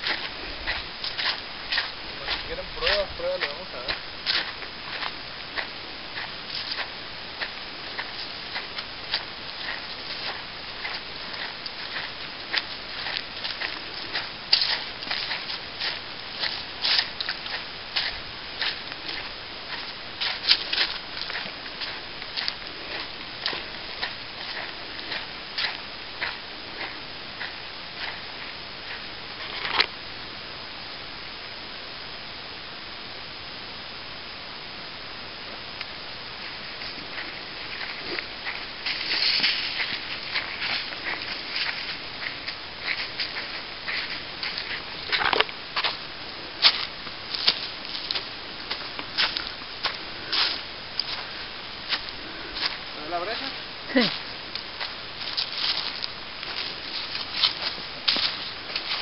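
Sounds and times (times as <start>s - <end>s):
footsteps crunching on dead leaves: 0.0s - 30.0s, 36.0s - 59.0s
steady hiss: 0.0s - 59.0s.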